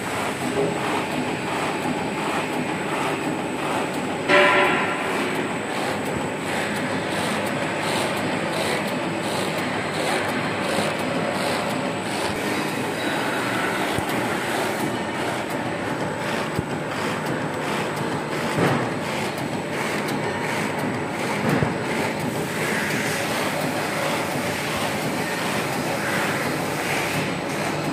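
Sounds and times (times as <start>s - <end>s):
cutting machine clattering: 0.0s - 27.9s.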